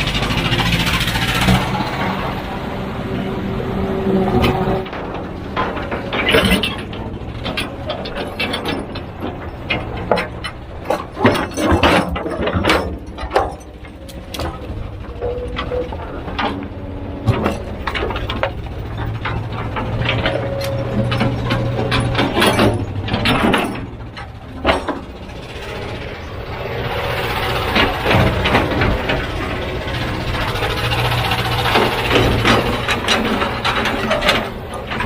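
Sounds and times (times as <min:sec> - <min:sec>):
diesel engine drone: 0:00.0 - 0:35.0
metallic clanks and knocks: 0:03.2 - 0:35.0.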